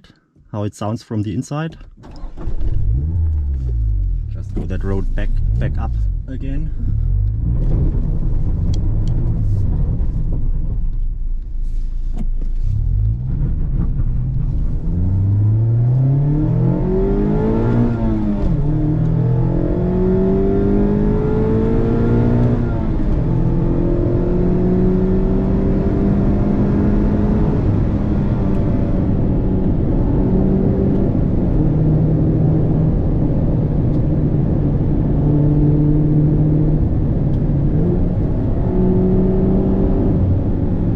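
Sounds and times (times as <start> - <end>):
car engine accelerating: 2.0 - 40.9.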